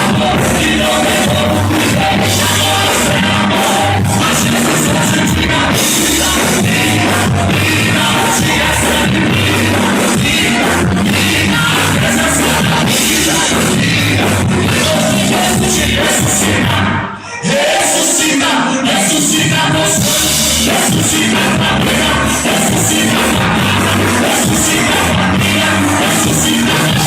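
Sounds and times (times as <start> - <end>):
gospel band music with singing: 0.0 - 27.0.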